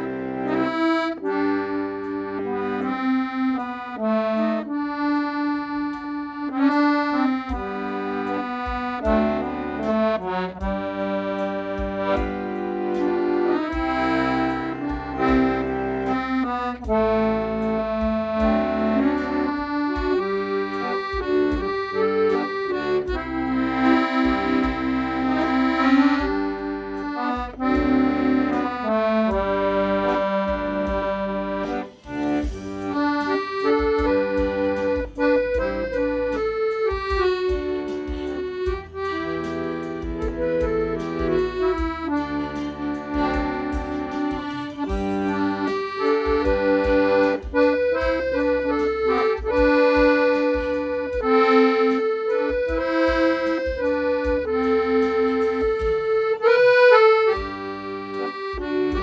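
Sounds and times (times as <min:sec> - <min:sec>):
accordion playing slow melody: 0:00.0 - 0:59.0
steady bass beat: 0:00.0 - 0:59.0.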